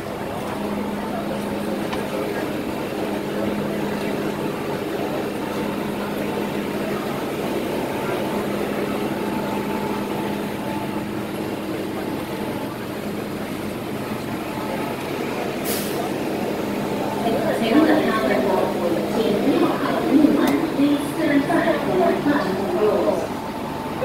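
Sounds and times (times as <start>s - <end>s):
metro train wheels rumbling: 0.0s - 24.0s.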